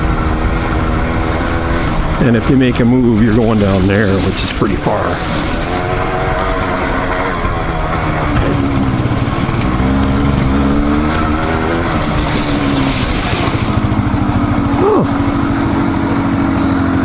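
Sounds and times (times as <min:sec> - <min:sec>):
dirt bike engine revving: 0:00.0 - 0:17.0
tyres on loose shale: 0:01.9 - 0:15.7.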